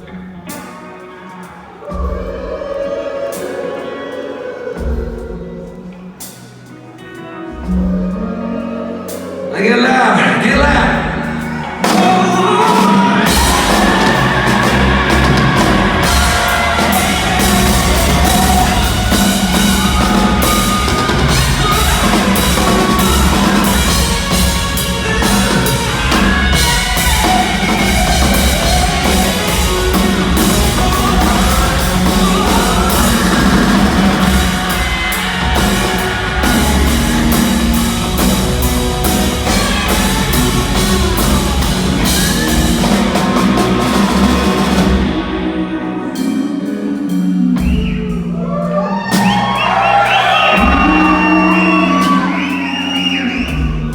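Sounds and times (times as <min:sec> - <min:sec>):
rock band playing: 0:00.0 - 0:53.9
drum beat and cymbals: 0:10.5 - 0:53.9.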